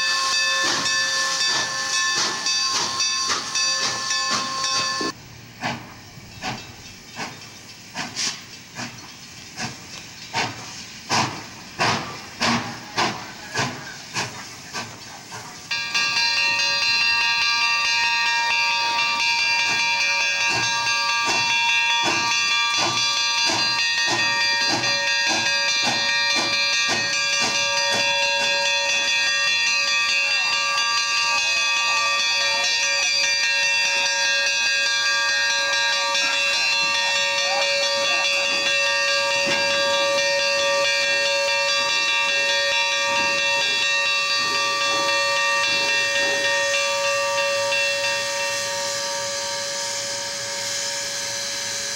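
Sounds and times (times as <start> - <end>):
steam locomotive chuffing: 0.0 - 51.9.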